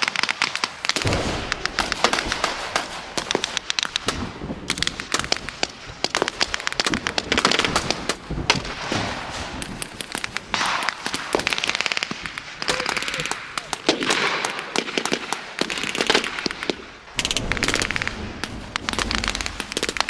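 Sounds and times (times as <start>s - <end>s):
gunfire in rapid volleys: 0.0s - 20.0s.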